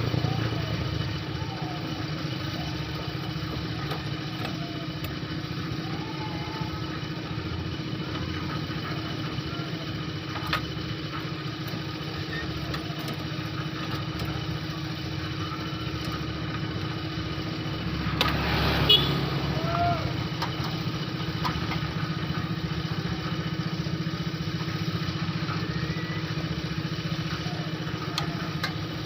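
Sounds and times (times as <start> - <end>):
small engine idling: 0.0 - 29.0.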